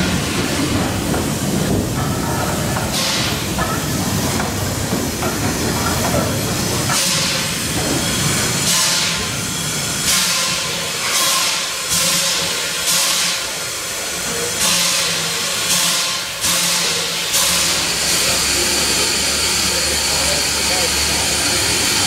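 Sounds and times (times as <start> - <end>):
steam locomotive chuffing: 0.0 - 22.0.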